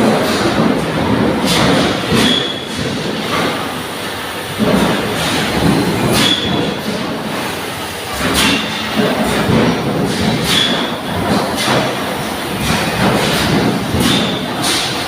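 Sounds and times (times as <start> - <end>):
welding machine clatter: 0.0 - 15.0.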